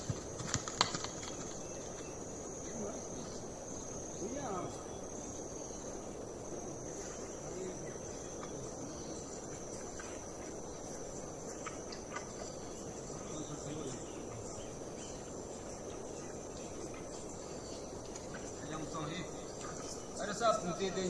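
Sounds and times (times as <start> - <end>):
insect chorus: 0.0 - 21.0
low outdoor background noise: 0.0 - 21.0.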